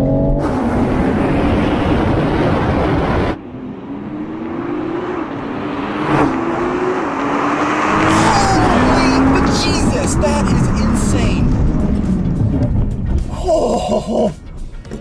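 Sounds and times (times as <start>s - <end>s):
car engine accelerating hard: 0.0s - 14.2s
road noise: 0.0s - 15.0s.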